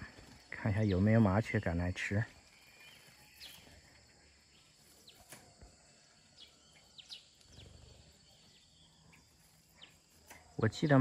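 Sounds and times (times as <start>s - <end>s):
sparrows chirping: 0.0s - 11.0s.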